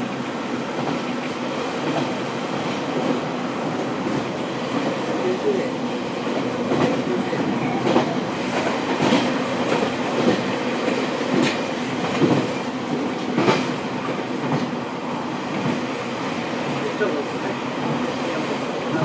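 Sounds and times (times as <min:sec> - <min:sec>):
train engine and wheels droning: 0:00.0 - 0:19.0.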